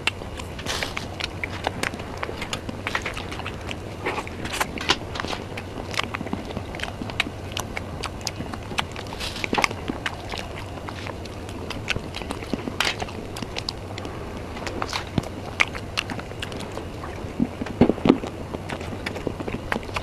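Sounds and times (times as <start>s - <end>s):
wet mouth clicks while chewing: 0.0s - 20.0s.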